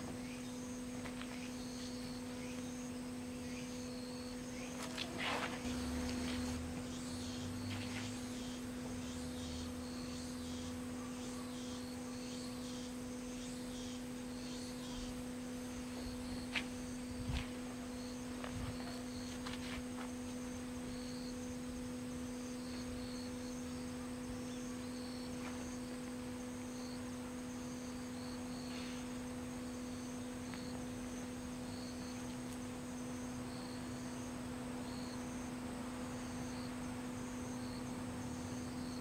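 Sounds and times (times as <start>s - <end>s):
insects trilling: 0.0s - 39.0s
steady low hum: 0.0s - 39.0s.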